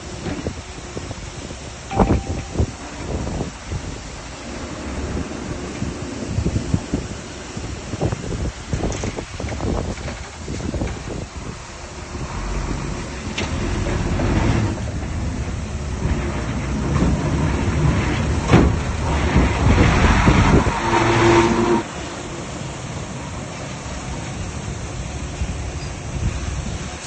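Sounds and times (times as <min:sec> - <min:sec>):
heavy diesel machinery engine: 0:00.0 - 0:27.0.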